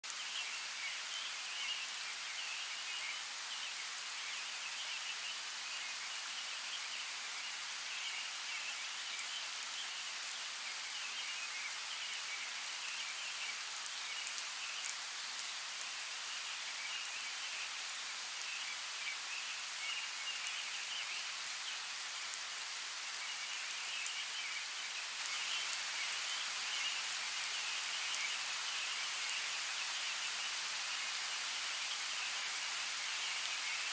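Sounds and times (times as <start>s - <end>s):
light rain on foliage: 0.0s - 33.9s.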